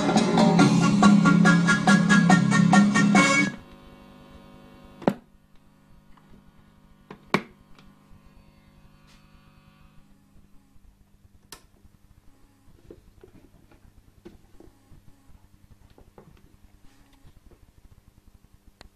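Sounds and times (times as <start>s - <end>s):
speaker humming: 0.0s - 18.9s.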